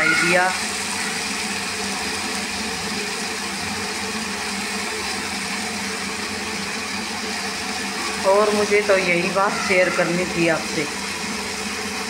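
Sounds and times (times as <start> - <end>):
range hood fan humming: 0.0 - 12.0.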